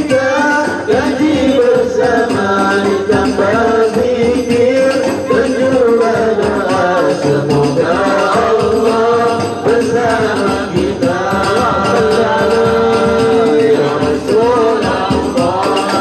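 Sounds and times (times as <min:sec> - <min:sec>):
frame drums beating: 0:00.0 - 0:16.0
man singing into a microphone: 0:00.0 - 0:16.0.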